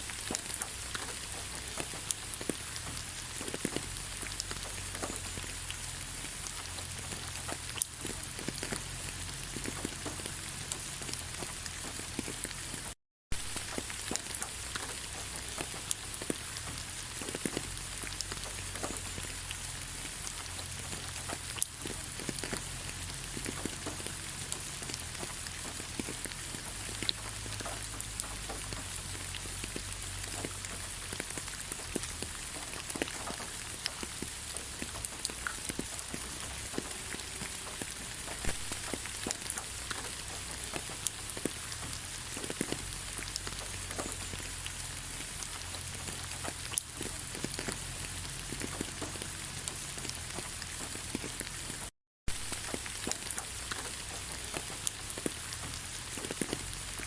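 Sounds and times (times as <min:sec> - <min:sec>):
raindrops tapping: 0:00.0 - 0:57.0
steady rain hiss: 0:00.0 - 0:57.0.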